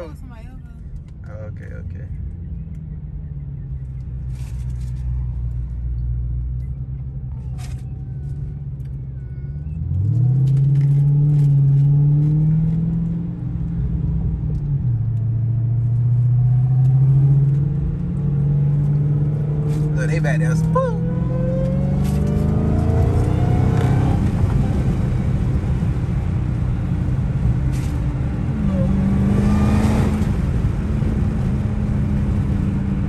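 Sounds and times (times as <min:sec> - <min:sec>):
car engine rumbling and accelerating: 0:00.0 - 0:33.0.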